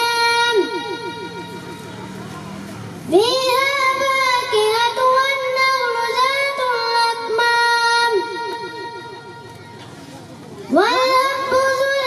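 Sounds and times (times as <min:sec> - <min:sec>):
boy singing into a microphone: 0:00.0 - 0:02.0, 0:03.1 - 0:09.8, 0:10.6 - 0:12.0.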